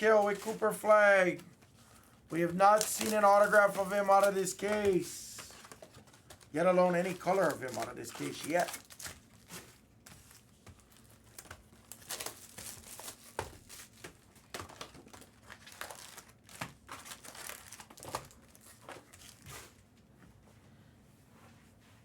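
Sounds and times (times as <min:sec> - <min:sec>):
card pack wrappers crinkling: 0:00.0 - 0:19.8.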